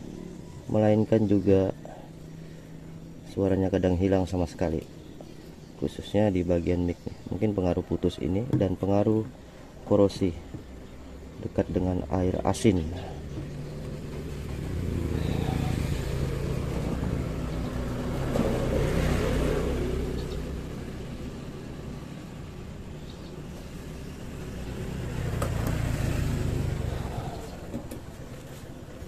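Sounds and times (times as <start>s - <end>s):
road vehicles passing by: 0.0s - 29.0s.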